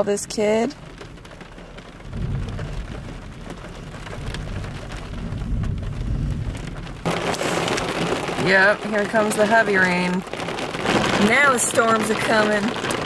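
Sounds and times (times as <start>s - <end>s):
rain on car roof: 0.0s - 13.0s
thunder rumbling: 0.5s - 13.0s.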